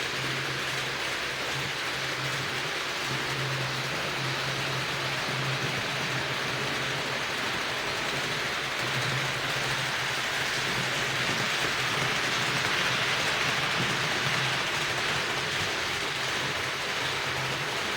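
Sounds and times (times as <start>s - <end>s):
model train rolling hiss: 0.0s - 17.9s.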